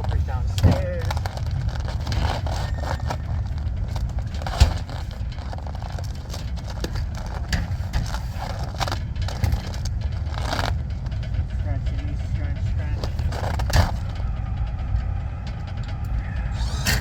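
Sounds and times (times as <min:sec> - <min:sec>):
scrapes and clicks: 0:00.0 - 0:14.5, 0:15.7 - 0:17.0
steady low rumble: 0:00.0 - 0:17.0.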